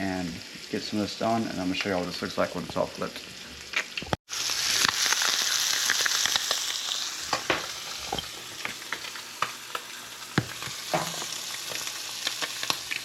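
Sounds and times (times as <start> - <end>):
fish fillets sizzling in butter: 0.0 - 13.0.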